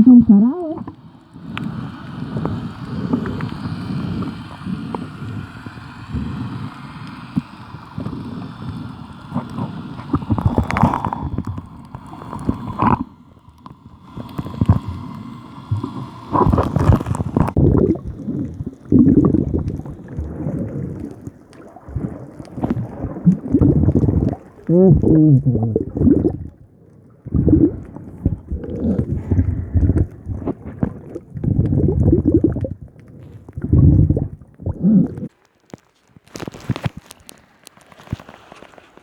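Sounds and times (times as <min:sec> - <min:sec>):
water splashes: 0:00.0 - 0:35.6
water sloshing and gurgling: 0:00.0 - 0:39.0.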